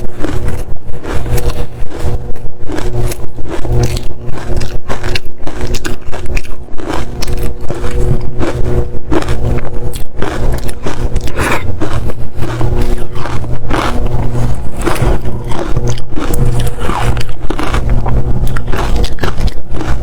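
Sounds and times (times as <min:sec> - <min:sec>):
ice crunching when chewed: 0:00.0 - 0:20.0
steady low hum: 0:00.0 - 0:20.0.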